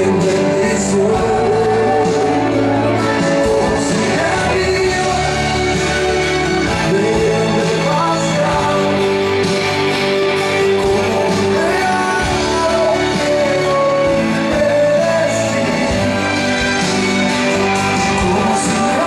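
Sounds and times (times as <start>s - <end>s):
instrumental music: 0.0s - 19.0s.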